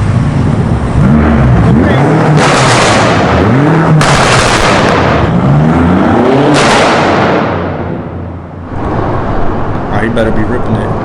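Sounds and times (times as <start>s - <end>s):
car engine accelerating: 0.0s - 11.0s
exhaust rush: 0.0s - 11.0s
road noise: 0.0s - 11.0s.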